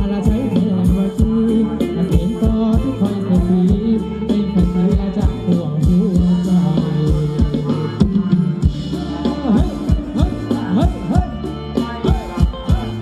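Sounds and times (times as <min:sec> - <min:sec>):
driving drum beat: 0:00.0 - 0:13.0
live band playing dance music: 0:00.0 - 0:13.0.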